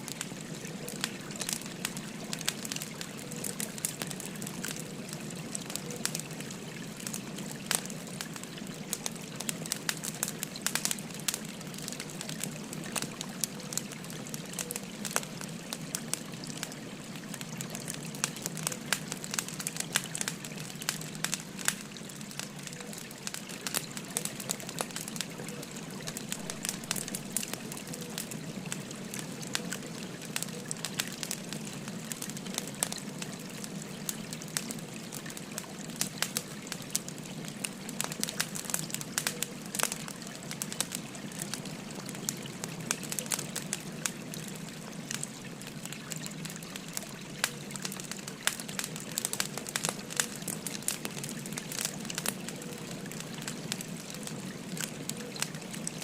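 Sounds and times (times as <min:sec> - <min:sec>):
babbling river: 0:00.0 - 0:56.0
firewood crackling and popping: 0:00.0 - 0:56.0.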